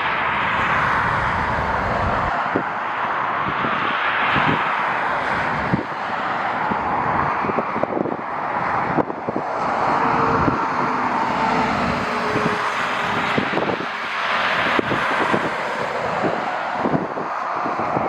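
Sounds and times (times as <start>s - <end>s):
jet engines rushing: 0.0s - 18.0s
wind buffeting microphone: 0.0s - 18.0s.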